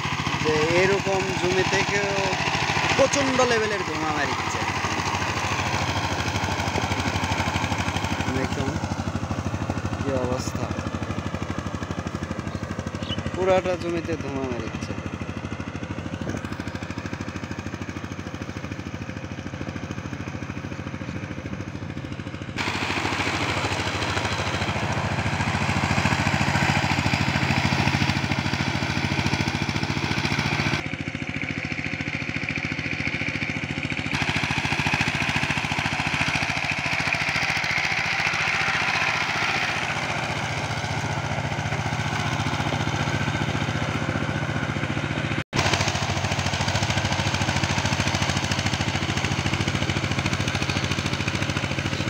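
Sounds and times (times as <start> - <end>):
diesel engine labouring: 0.0 - 52.0.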